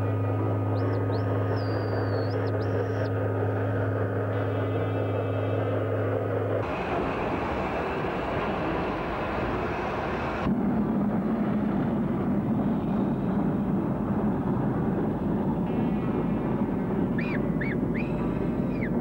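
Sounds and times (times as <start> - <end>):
steam locomotive running: 0.0 - 19.0.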